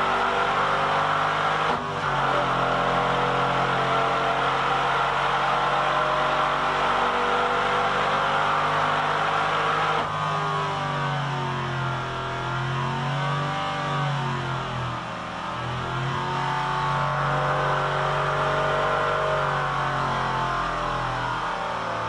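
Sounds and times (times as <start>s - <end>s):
high-revving engine drone: 0.0s - 22.0s.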